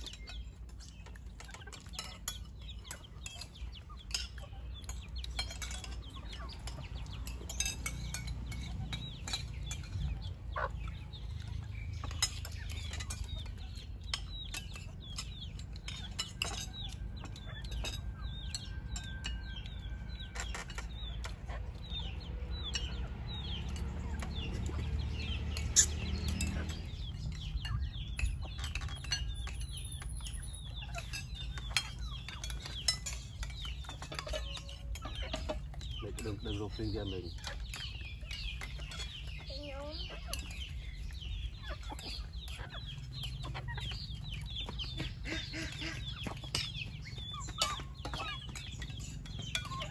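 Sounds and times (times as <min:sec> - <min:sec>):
chickens clucking: 0:00.0 - 0:49.9
chicks peeping: 0:00.0 - 0:49.9
utensils clinking on dishes: 0:00.0 - 0:49.9.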